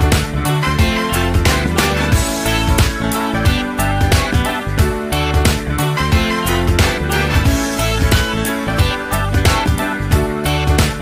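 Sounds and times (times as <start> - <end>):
music with plucked guitar: 0.0 - 11.0.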